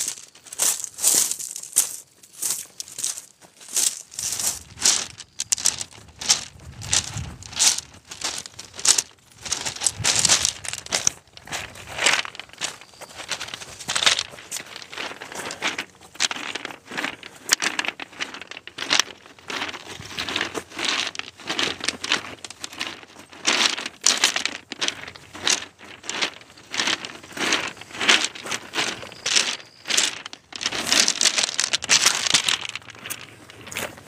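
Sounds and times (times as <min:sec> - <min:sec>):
footsteps on pebbles: 0:00.0 - 0:34.0.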